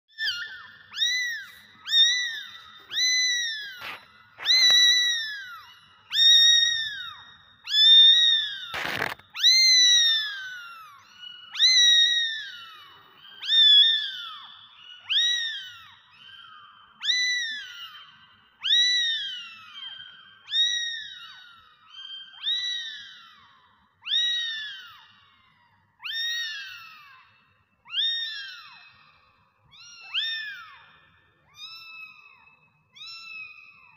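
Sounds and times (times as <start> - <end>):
kitten meowing: 0.2 - 18.0, 18.6 - 25.1, 26.0 - 27.3, 27.9 - 28.8, 29.7 - 33.9.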